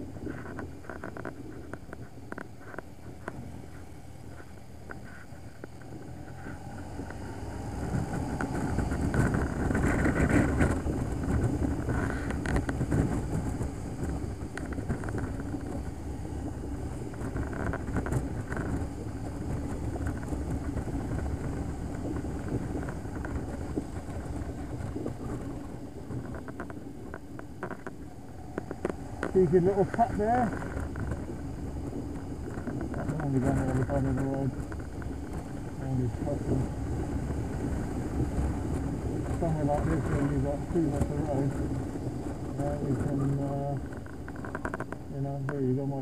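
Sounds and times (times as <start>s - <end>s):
motorcycle engine rumble: 0.0s - 46.0s
wind noise: 0.0s - 46.0s.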